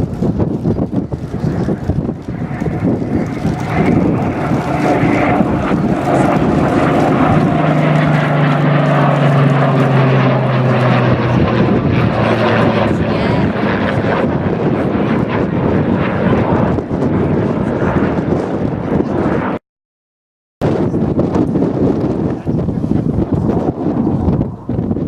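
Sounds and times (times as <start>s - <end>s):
aircraft engines flying past: 0.0s - 19.6s, 20.6s - 25.0s.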